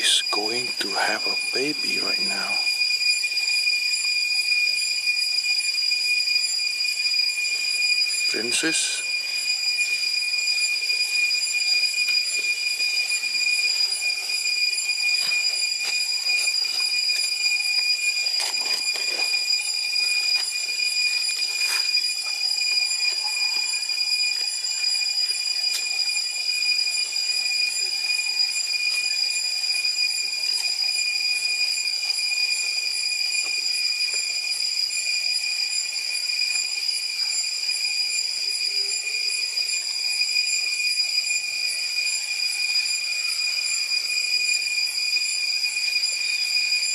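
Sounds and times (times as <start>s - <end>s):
shrill insect drone: 0.0s - 46.9s.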